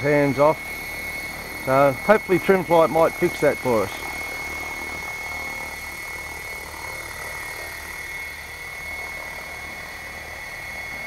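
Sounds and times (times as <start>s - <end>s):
rc helicopter high whine: 0.0s - 11.0s.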